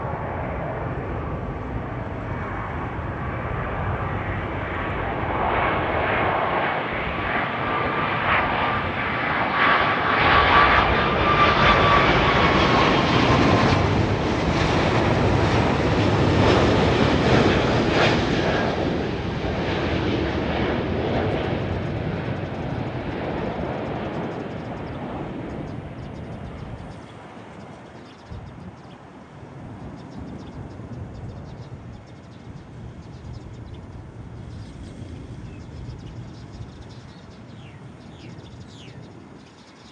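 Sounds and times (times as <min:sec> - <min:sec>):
jet engines passing: 0:00.0 - 0:39.9.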